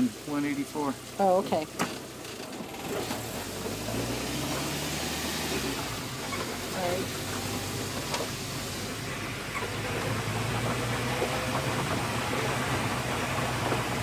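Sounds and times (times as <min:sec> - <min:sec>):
road noise: 0:00.0 - 0:14.0
van engine drone: 0:00.0 - 0:14.0.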